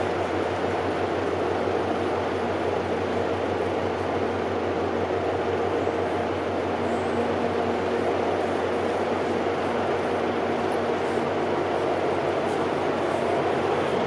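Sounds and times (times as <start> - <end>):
ship engine drone: 0.0 - 14.0.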